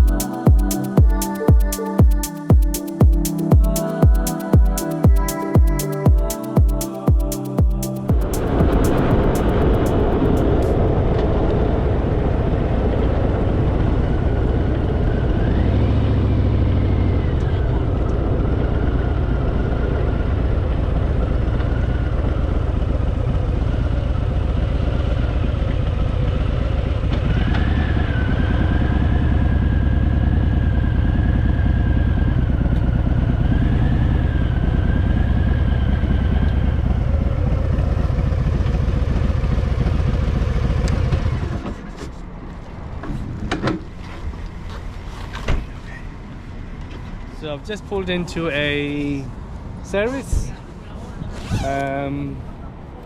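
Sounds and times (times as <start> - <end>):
motorcycle engine rumbling: 0.0 - 49.3.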